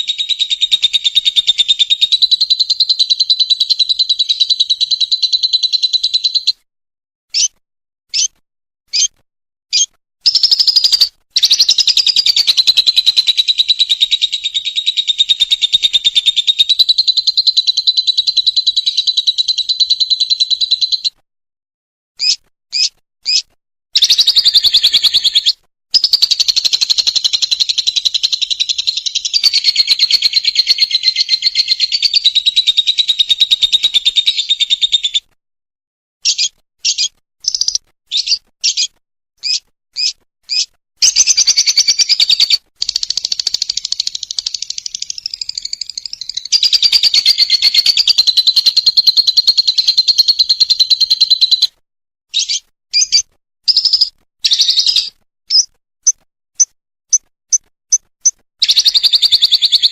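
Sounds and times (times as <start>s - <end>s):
bird chirps: 0.0s - 6.6s, 7.3s - 21.2s, 22.2s - 35.3s, 36.2s - 59.9s
bird high-pitched trilling: 0.0s - 6.6s, 7.3s - 21.2s, 22.2s - 35.3s, 36.2s - 51.7s, 52.3s - 56.2s, 57.1s - 59.9s.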